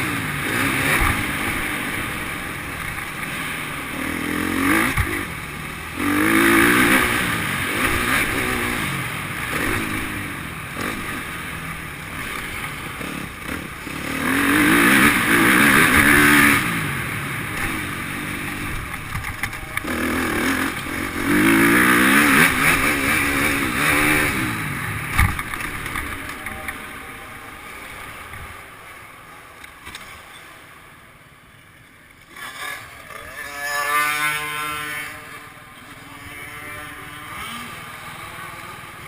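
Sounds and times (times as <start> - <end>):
motocross bike engines revving: 0.0 - 28.9, 32.2 - 39.0.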